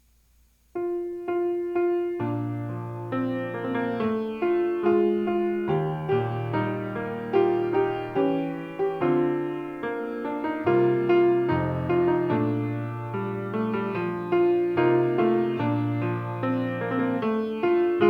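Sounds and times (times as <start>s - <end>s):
slow gentle piano piece: 0.0s - 18.0s.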